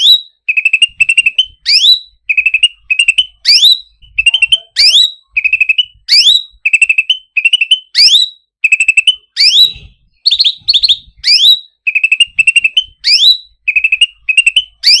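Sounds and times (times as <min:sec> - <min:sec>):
songbird singing whistled trills: 0:00.0 - 0:15.0.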